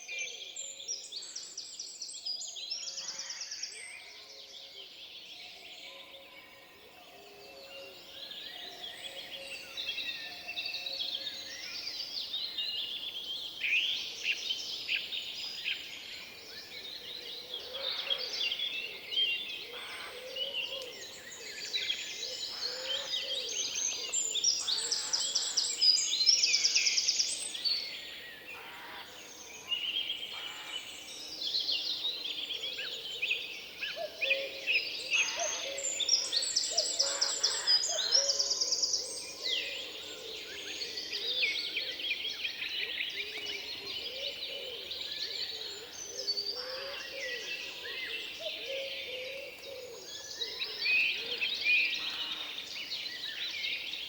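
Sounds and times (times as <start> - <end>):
songbirds chorus: 0.0 - 54.0.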